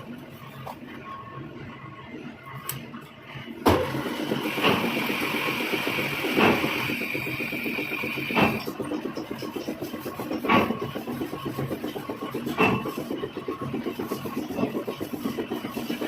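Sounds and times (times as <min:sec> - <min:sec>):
metalworking machine whine: 0:00.0 - 0:16.0.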